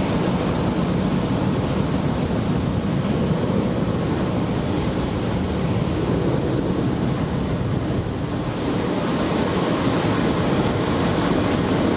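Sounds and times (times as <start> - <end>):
jet engines rumbling: 0.0 - 11.9.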